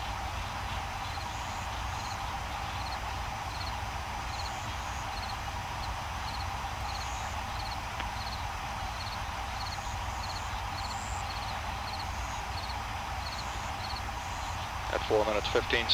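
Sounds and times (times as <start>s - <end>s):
radio hiss and hum: 0.0s - 15.9s.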